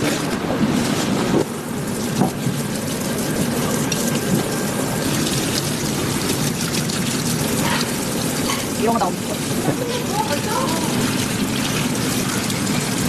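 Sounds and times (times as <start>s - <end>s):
kitchen mechanical hum: 0.0s - 13.0s.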